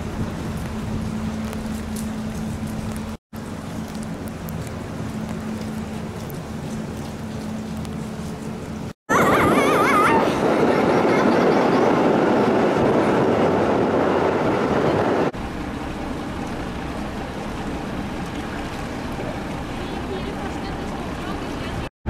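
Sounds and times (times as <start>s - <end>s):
ferry machinery noise: 0.0s - 21.9s.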